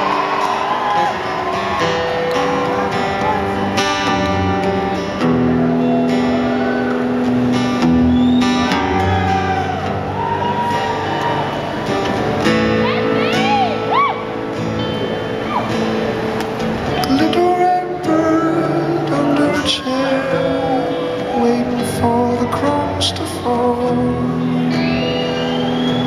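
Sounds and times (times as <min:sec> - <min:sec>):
crowd cheering and whooping: 0:00.0 - 0:16.0, 0:18.4 - 0:21.9, 0:24.4 - 0:26.0
amplified acoustic guitar: 0:00.0 - 0:26.0.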